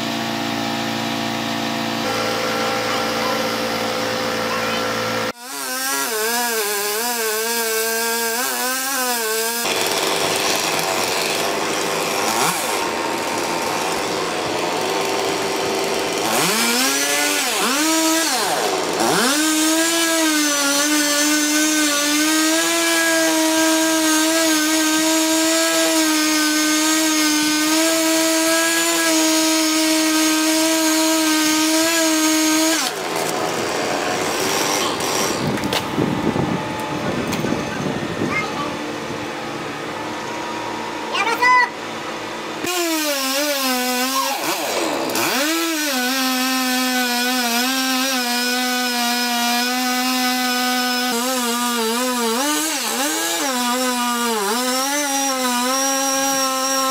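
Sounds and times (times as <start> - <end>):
chainsaw cutting through trunk: 0.0 - 38.4, 41.1 - 56.9.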